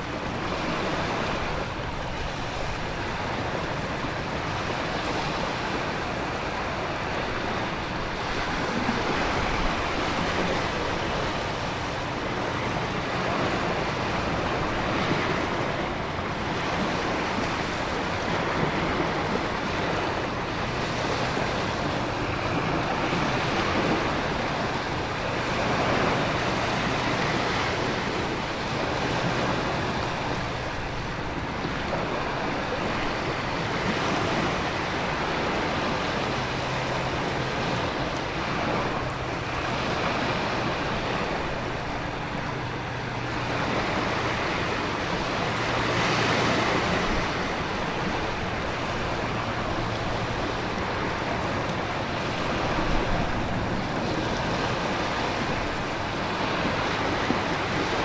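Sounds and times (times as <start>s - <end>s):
ocean surf: 0.0s - 58.0s
wind: 0.0s - 58.0s.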